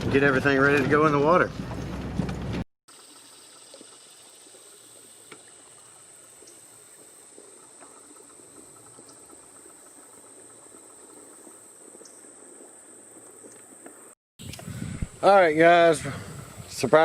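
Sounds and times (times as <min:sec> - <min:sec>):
insects droning: 0:02.9 - 0:17.0.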